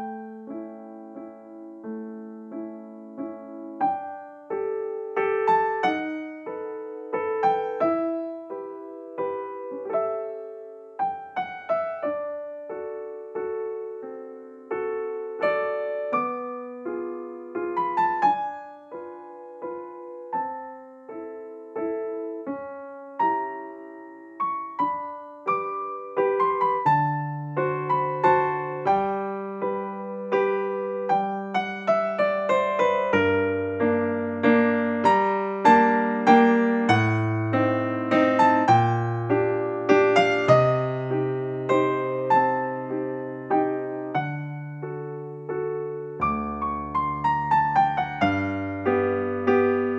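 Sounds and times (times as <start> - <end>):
gentle piano melody: 0.0 - 49.9.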